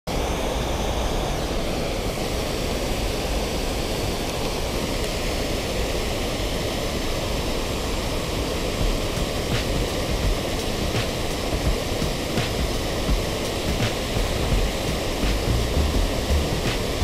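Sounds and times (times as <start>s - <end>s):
water rushing over a weir: 0.1s - 17.0s.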